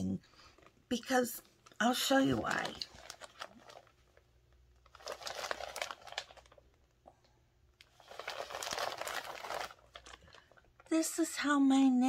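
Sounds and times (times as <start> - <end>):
plastic bag crinkling: 0.4 - 7.0, 7.8 - 11.0.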